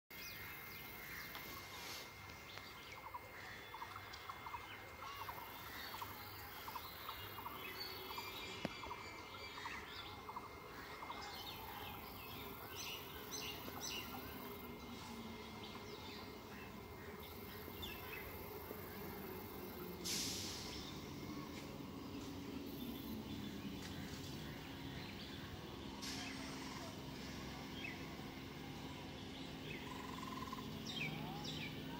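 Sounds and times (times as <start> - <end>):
birds chirping and calling: 0.2 - 31.9.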